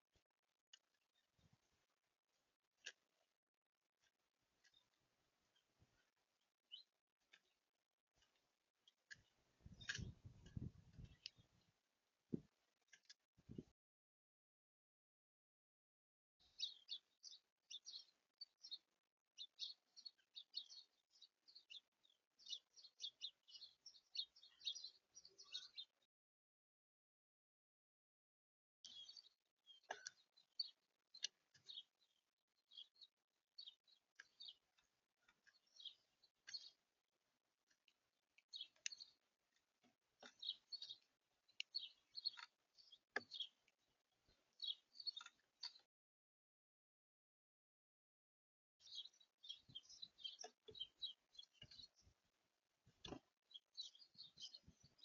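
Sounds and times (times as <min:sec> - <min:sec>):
songbirds chirping: 0:00.0 - 0:13.6, 0:16.4 - 0:26.1, 0:28.8 - 0:45.9, 0:48.8 - 0:55.0.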